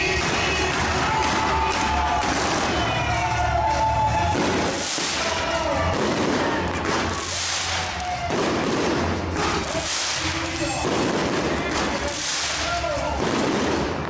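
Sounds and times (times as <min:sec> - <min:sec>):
fireworks crackling and popping: 0:00.0 - 0:14.0
music playing: 0:00.0 - 0:14.0.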